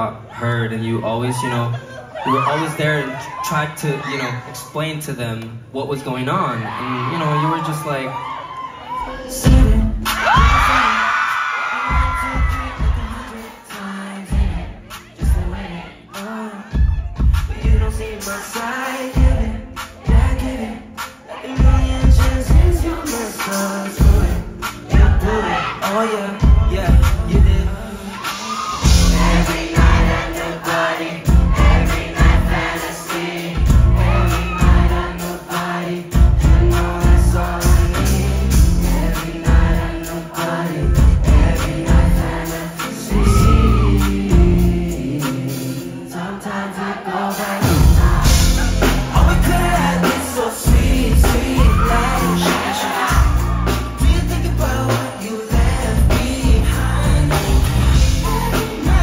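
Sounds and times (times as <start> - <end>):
live pop song through pa: 0.0 - 59.0
man singing lead vocal: 8.9 - 59.0.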